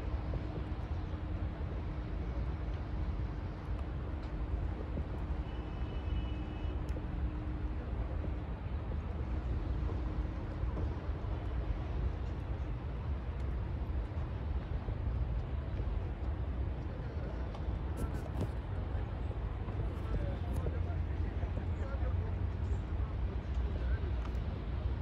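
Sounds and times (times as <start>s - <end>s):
vehicle rumble in motion: 0.0s - 25.0s.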